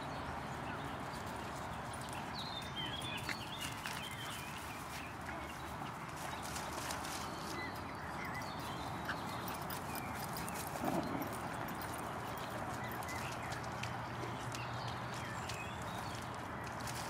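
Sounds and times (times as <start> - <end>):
dogs playing on grass: 0.0 - 17.0
outdoor background noise: 0.0 - 17.0.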